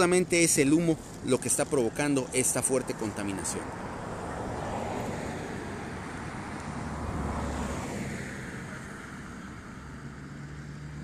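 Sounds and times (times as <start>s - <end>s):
vehicle passing on road: 0.0s - 11.0s.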